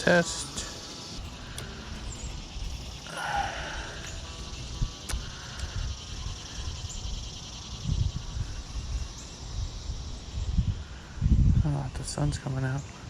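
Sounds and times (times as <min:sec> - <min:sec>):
wind on microphone: 0:00.0 - 0:12.6
high-pitched wildlife chorus: 0:00.0 - 0:13.0.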